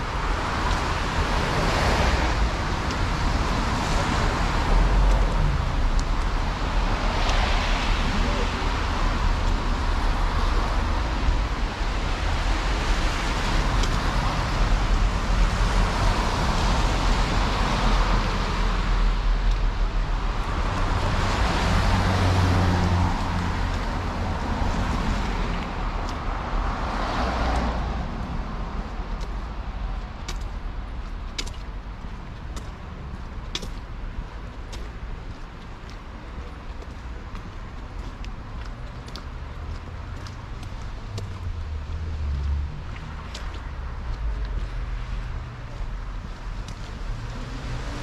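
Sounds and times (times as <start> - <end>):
cars passing: 0.0 - 48.0.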